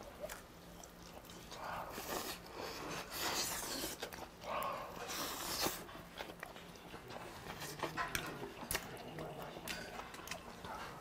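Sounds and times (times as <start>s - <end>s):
man biting and chewing: 0.0s - 11.0s.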